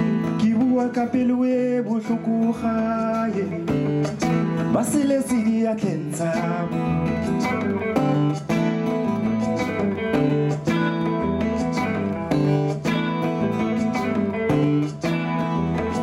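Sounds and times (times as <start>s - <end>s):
guitar: 0.0s - 16.0s
live band playing: 0.0s - 16.0s
person singing: 0.0s - 16.0s.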